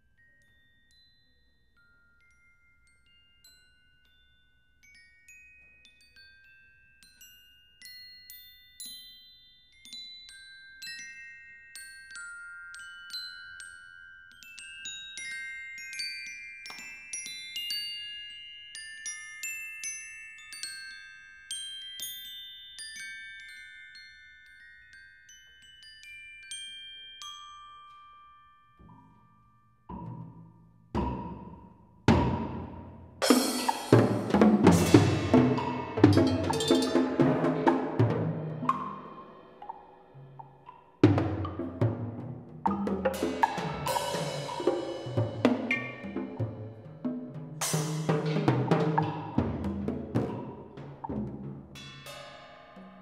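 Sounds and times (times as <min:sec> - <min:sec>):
glockenspiel-like mallet notes: 0:00.0 - 0:53.0.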